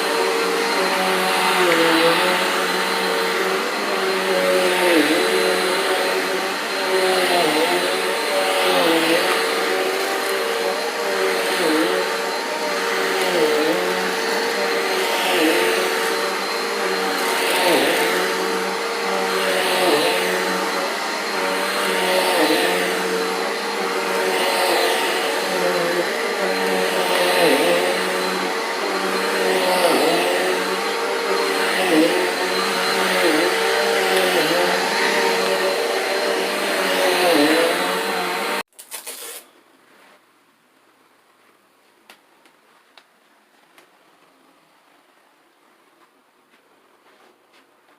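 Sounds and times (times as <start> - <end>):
vacuum cleaner running on carpet: 0.0 - 38.7.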